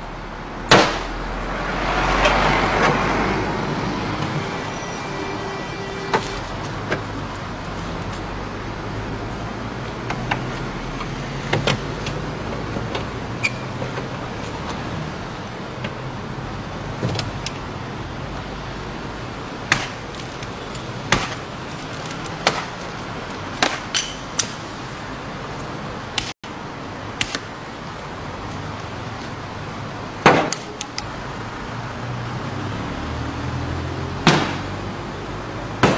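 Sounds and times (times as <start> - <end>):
street traffic hum: 0.0 - 35.9.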